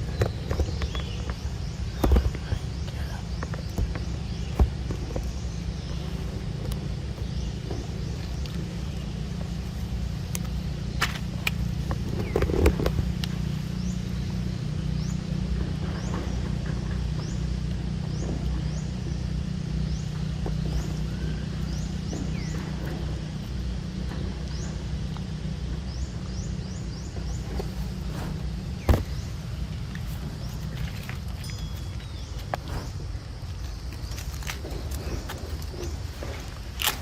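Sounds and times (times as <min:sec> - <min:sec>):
low rumble of distant traffic: 0:00.0 - 0:37.0.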